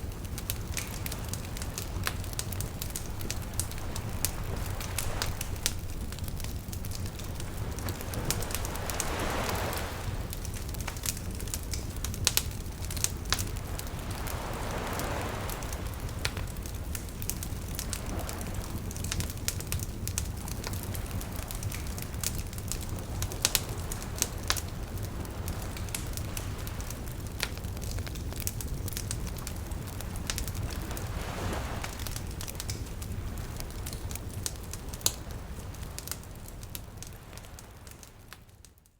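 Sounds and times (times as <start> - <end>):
waves washing in: 0.0 - 38.3
low rumble of surf: 0.0 - 38.8
wood fire crackling and popping: 0.0 - 38.8.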